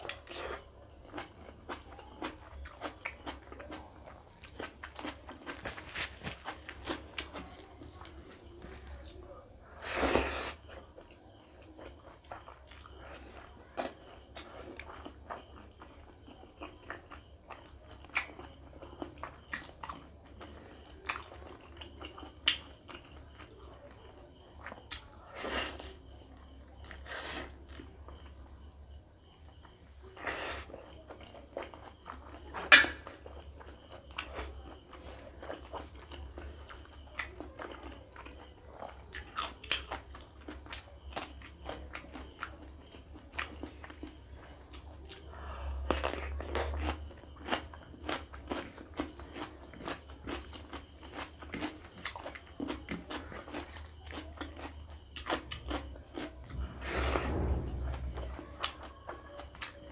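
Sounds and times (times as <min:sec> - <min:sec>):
chewing and biting food: 0:00.0 - 0:28.5, 0:29.3 - 0:59.9.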